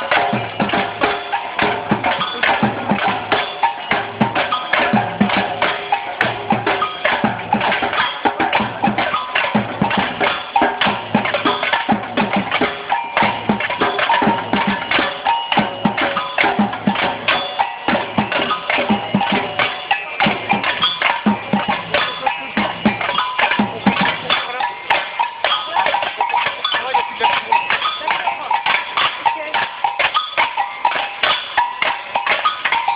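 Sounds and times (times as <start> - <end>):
samba percussion band: 0.0 - 32.9.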